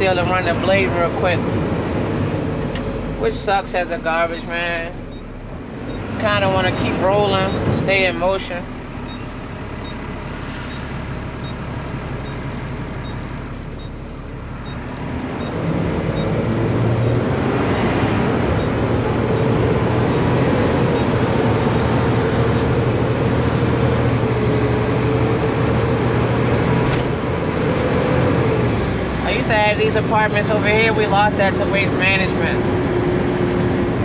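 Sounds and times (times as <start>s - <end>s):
road noise: 0.0s - 34.0s
truck diesel engine: 0.0s - 34.0s.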